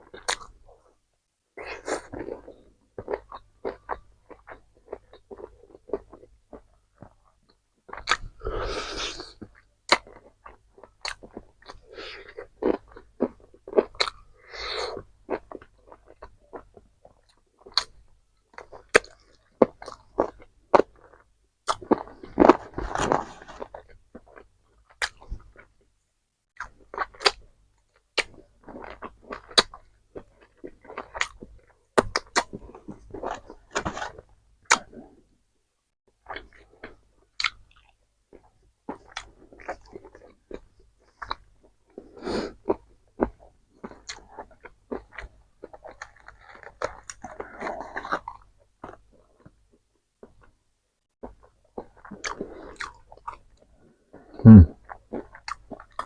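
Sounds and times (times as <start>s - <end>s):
crunching and chewing fried food: 0.0s - 1.0s, 1.6s - 25.9s, 26.6s - 35.3s, 36.1s - 50.6s, 51.2s - 56.0s.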